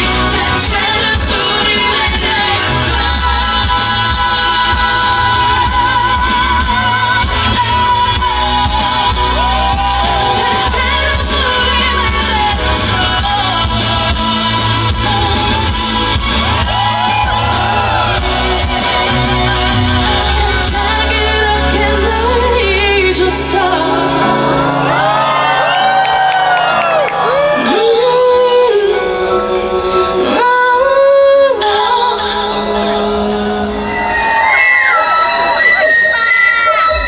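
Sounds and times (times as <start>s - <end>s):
woman singing: 0.0s - 25.2s, 27.2s - 33.9s
band playing with heavy bass: 0.0s - 37.0s.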